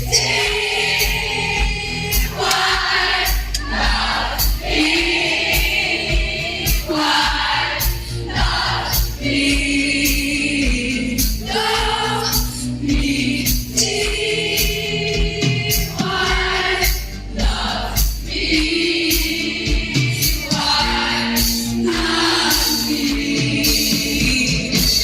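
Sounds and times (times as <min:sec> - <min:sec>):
live pop concert singing and band: 0:00.0 - 0:25.0.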